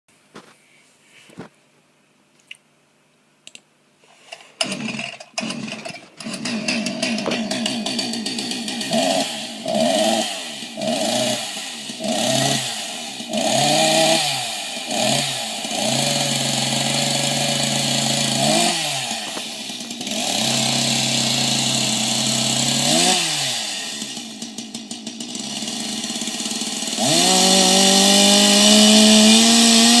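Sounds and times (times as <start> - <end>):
chainsaw engine revving: 4.6 - 30.0.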